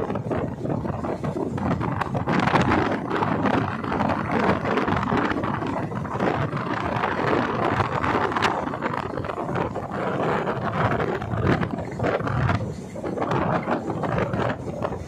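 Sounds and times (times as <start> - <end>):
boat running on water: 0.0 - 15.0
wind buffeting microphone: 0.0 - 15.0.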